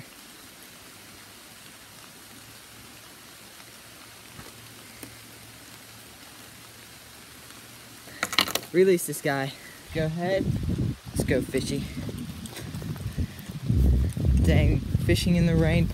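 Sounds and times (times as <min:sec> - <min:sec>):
steady rain falling: 0:00.0 - 0:15.9.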